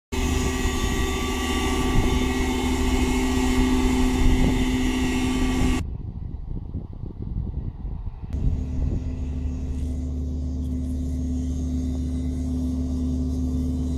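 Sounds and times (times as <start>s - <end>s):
field sprayer engine hum: 0.1s - 5.8s, 8.0s - 13.9s
low rumble: 0.2s - 13.9s.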